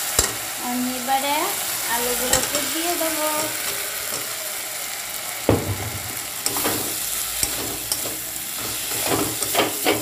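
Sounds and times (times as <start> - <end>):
frying sizzle: 0.0 - 10.0.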